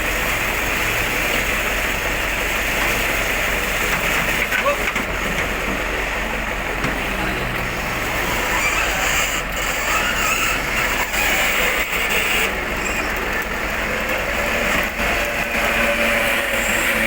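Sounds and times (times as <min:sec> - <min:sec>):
motor vehicle running: 0:00.0 - 0:17.0.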